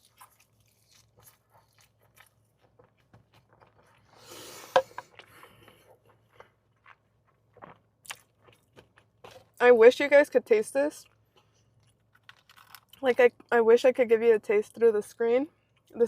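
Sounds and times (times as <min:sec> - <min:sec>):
chewing and crunching fried food: 0:00.0 - 0:09.7, 0:10.6 - 0:16.0.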